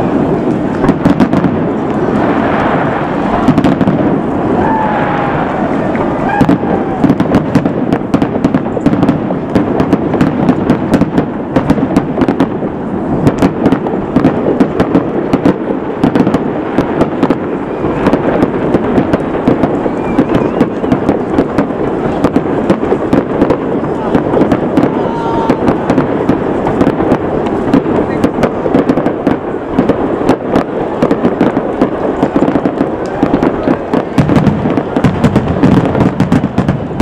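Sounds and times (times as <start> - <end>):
firework shells bursting: 0.0 - 37.0.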